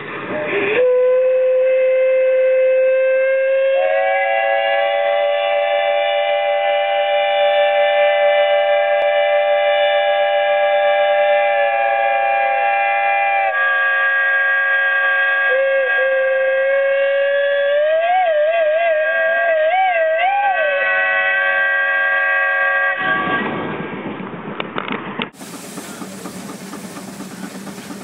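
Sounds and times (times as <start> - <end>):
steam whistle blowing: 0.3 - 23.5.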